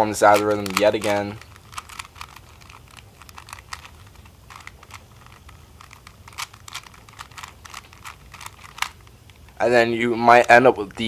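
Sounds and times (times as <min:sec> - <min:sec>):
puzzle cube clicking: 0:00.2 - 0:09.6.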